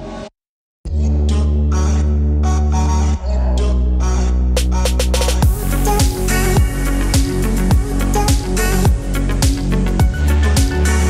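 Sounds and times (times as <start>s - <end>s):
electronic music with heavy bass: 0.9s - 11.0s.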